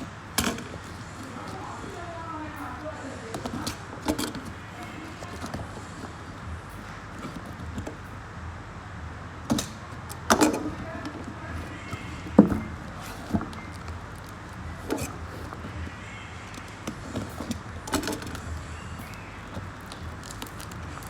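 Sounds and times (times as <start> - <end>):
knocks and clatters of handling: 0.0 - 8.2, 9.4 - 21.0
steady low hum: 0.0 - 21.0.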